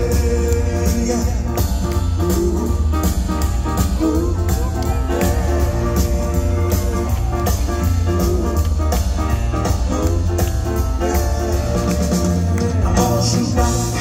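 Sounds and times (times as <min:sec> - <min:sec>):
rock and roll band playing: 0:00.0 - 0:14.0.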